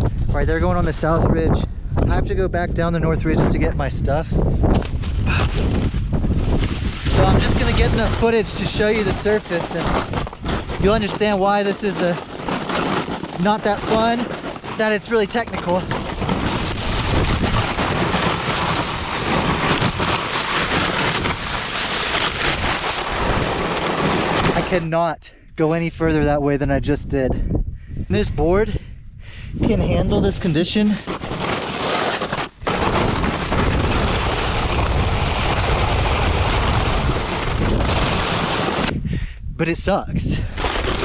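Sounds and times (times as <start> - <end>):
strong wind buffeting microphone: 0.0 - 41.0.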